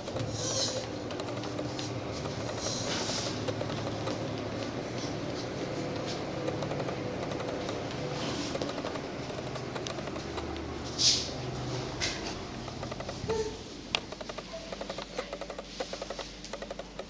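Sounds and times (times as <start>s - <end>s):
faint rustles and ticks: 0.0s - 17.0s
fan running hum: 0.0s - 17.0s.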